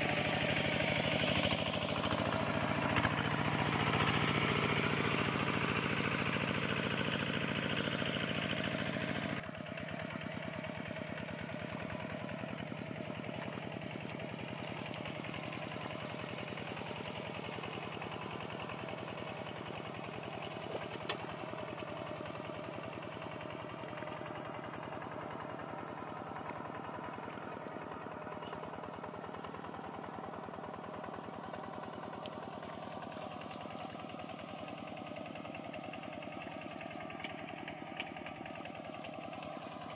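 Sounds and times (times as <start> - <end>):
hand tractor engine chugging: 0.0 - 39.9.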